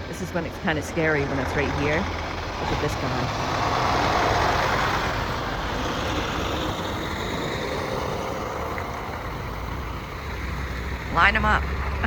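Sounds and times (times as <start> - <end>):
truck passing on snowy road: 0.0 - 12.0.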